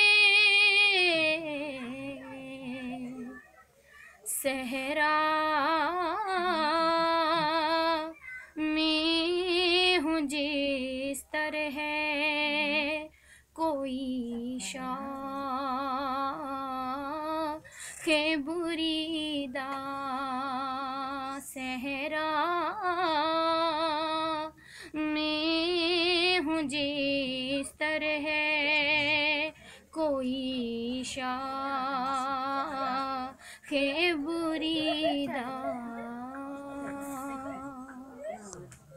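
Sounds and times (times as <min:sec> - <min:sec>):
woman singing unaccompanied: 0:00.0 - 0:03.4, 0:04.3 - 0:38.7.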